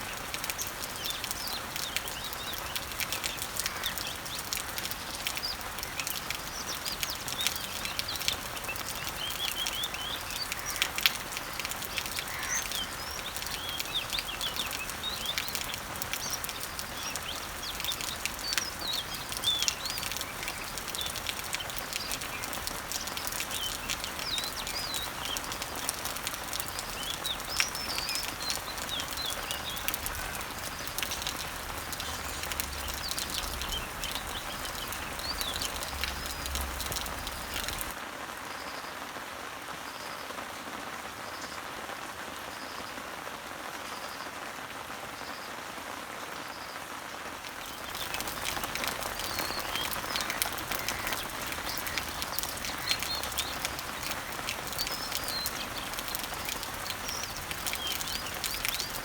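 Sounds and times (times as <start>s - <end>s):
birds chirping: 0.0s - 38.0s, 47.5s - 59.0s
even rain hiss: 0.0s - 59.0s
rain pattering on leaves: 0.0s - 59.0s.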